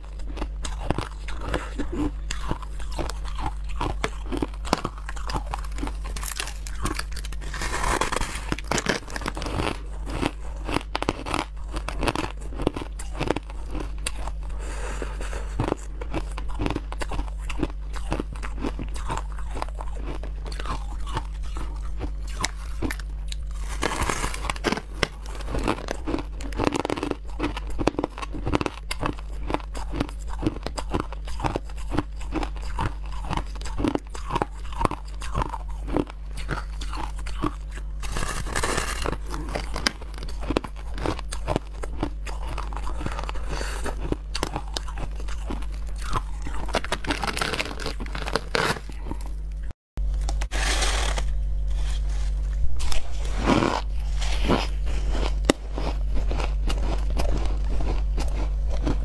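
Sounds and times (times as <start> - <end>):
crunching ice: 0.0 - 14.5, 15.3 - 49.3, 50.2 - 59.0
low hum: 0.0 - 27.9, 35.0 - 59.0.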